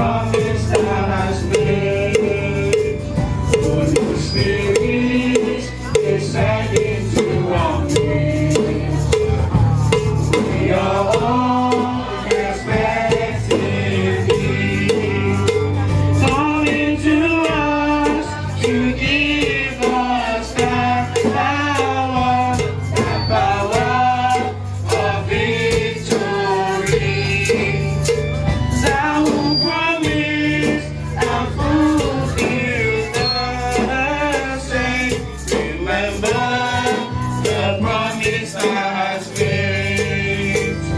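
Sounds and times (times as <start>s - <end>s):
bass line: 0.0s - 40.9s
gospel singing: 0.0s - 40.9s
percussion: 0.0s - 40.9s.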